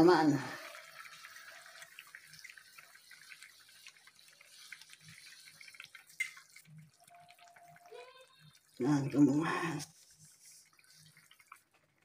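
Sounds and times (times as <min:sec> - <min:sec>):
broth bubbling in a metal pan: 0:00.0 - 0:12.0.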